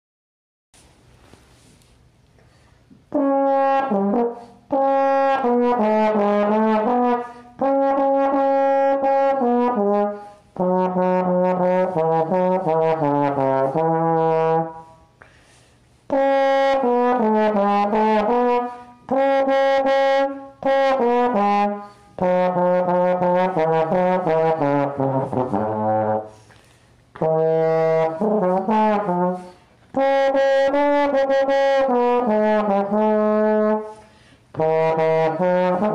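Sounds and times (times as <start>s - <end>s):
solo brass instrument melody: 3.1s - 15.1s, 16.1s - 26.4s, 27.1s - 35.9s.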